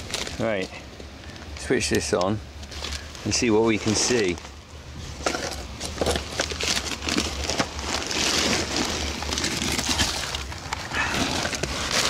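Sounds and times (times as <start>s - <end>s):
handling rustling and scraping: 0.0s - 12.0s.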